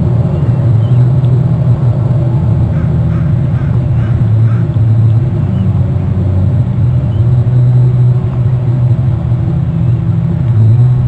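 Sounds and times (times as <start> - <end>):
loud low engine-like rumble: 0.0 - 11.0.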